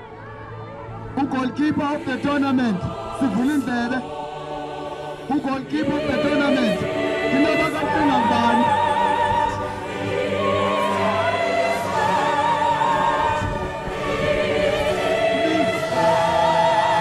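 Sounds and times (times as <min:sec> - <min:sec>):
voices singing with vibrato: 0:00.0 - 0:17.0.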